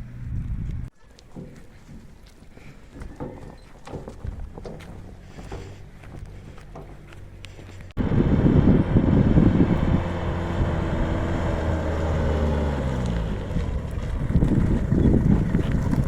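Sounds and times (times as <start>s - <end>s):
wind buffeting microphone: 0.0s - 0.9s, 2.0s - 16.0s.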